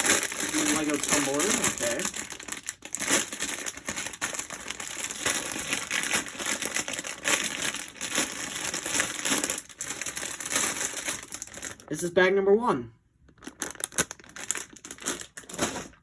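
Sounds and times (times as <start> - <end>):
plastic bags crinkling: 0.0 - 11.9, 13.2 - 16.0.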